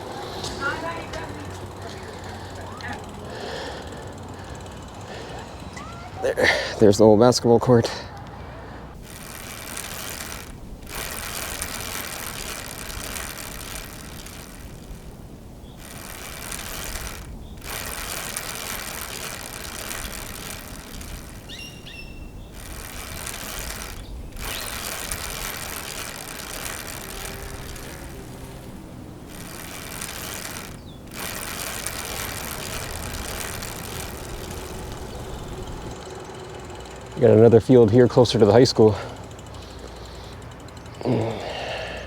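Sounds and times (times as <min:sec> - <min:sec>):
bicycle rushing hiss: 0:00.0 - 0:07.0, 0:08.6 - 0:36.1, 0:39.0 - 0:42.0.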